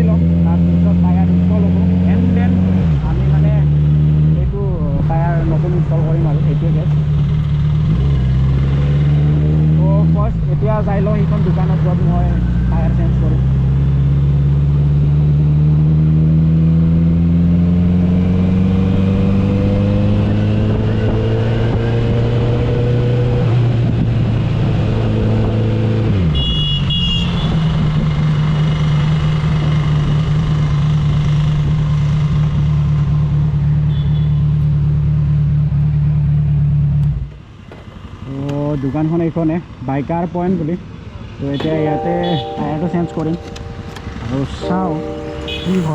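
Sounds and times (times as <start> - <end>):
motorcycle engine on the road: 0.0 - 45.9.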